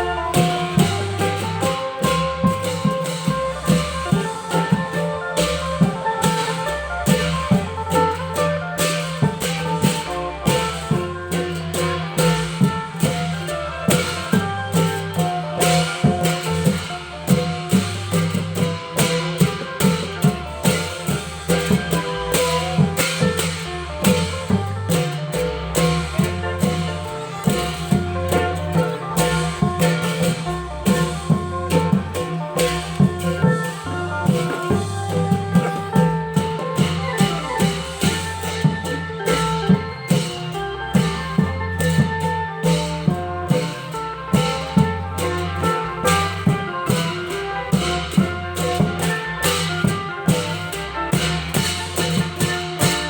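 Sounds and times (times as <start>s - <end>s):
drum band music: 0.0s - 53.0s.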